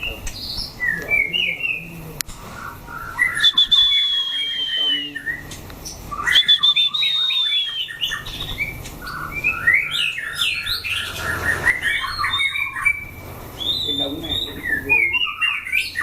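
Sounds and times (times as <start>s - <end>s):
bird singing whistled phrases: 0.0s - 16.0s.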